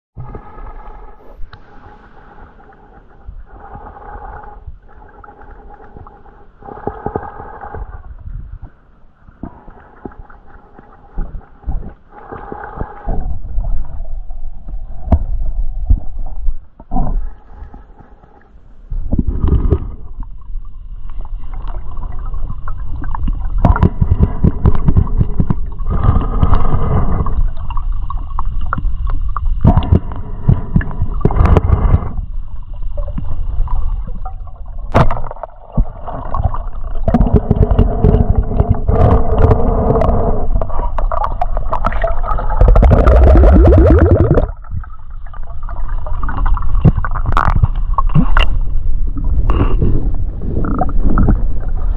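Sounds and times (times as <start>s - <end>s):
heavy uneven low rumble: 0.2s - 51.9s
water gurgling and sloshing: 0.2s - 51.9s.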